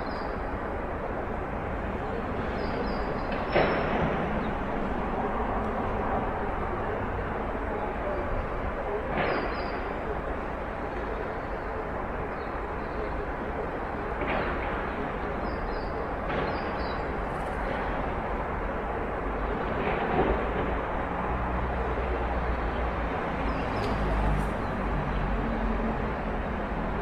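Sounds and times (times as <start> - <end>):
distant street traffic: 0.0 - 27.0.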